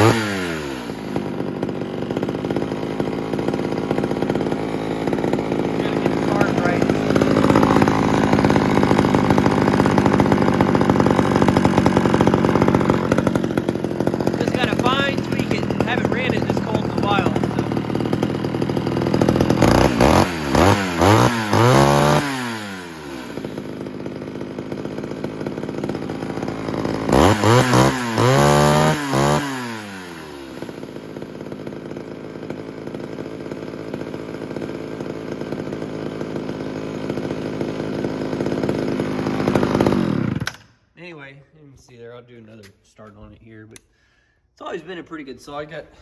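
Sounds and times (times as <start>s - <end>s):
chainsaw idling and revving: 0.0s - 40.8s.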